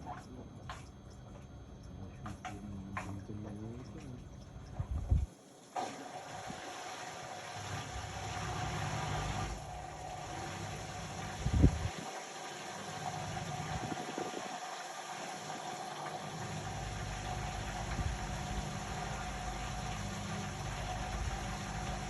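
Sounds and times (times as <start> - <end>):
washing machine motor hum: 0.0 - 22.0
water moving in drum: 0.0 - 22.0.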